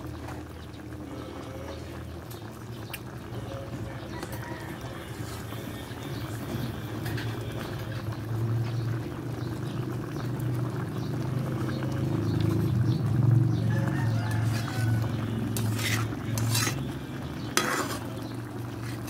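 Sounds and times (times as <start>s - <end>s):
curry boiling and bubbling: 0.0s - 19.0s.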